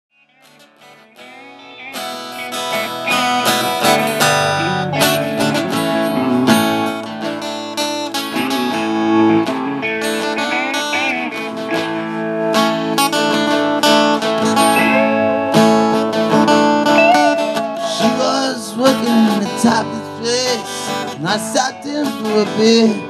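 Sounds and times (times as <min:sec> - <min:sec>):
acoustic guitar strumming chords: 0:00.3 - 0:23.0.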